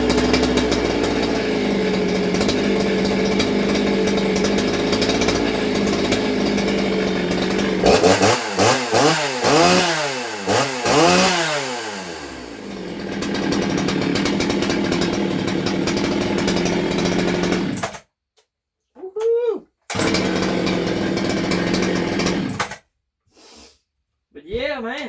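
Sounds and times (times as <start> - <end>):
chainsaw idling and revving: 0.0 - 18.1, 19.9 - 22.8.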